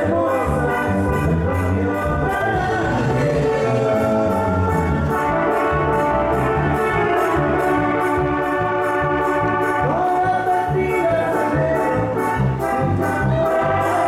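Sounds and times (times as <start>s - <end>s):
band playing dance music: 0.0s - 14.0s
bass pulsing: 0.0s - 14.0s
horn-like melody: 0.0s - 14.0s.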